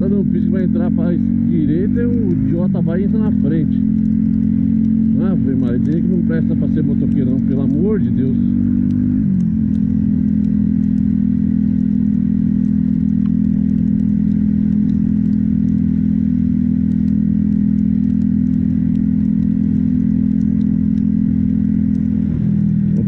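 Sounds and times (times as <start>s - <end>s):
motorcycle engine running: 0.0s - 23.0s
faint ticks: 0.9s - 23.0s.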